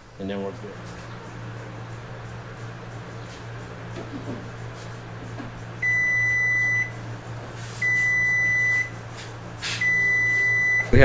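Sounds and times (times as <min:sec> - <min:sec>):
oven timer beeping: 0:00.1 - 0:11.0.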